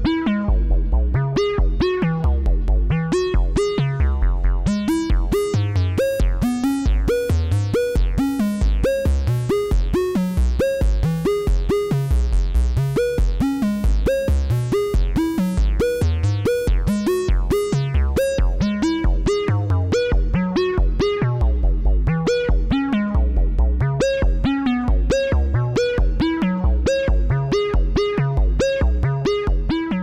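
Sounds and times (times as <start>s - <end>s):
low synth bass line: 0.0s - 30.0s.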